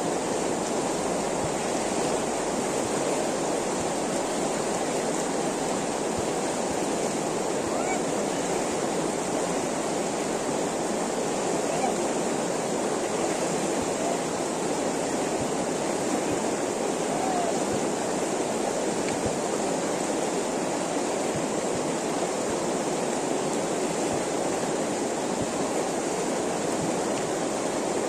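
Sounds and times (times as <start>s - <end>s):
river rushing over stones: 0.0s - 28.0s.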